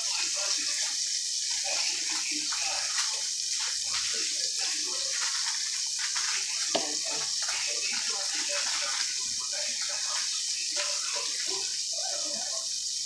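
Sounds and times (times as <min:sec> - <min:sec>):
tap water pouring into sink: 0:00.0 - 0:13.0.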